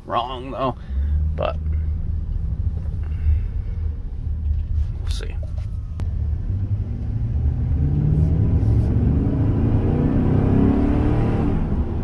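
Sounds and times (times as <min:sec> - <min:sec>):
engine accelerating: 0:00.8 - 0:12.0.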